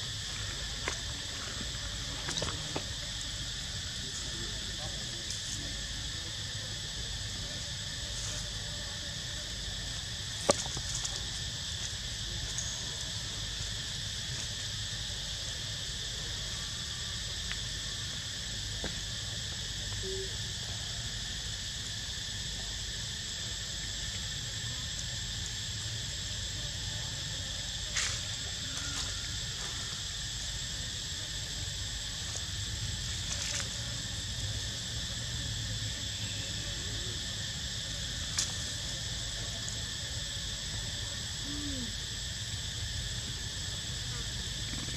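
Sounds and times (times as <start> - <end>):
insects buzzing: 0.0 - 44.9.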